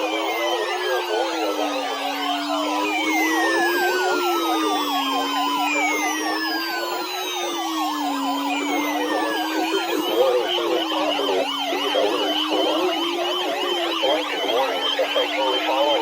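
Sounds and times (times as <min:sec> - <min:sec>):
fast warbling siren yelp: 0:00.0 - 0:16.0
high sweeping siren tones: 0:00.0 - 0:16.0
low wailing siren: 0:00.0 - 0:16.0.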